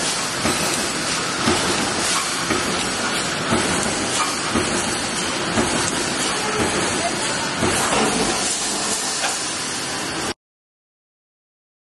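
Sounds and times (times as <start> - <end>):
hissing factory noise: 0.0 - 10.4.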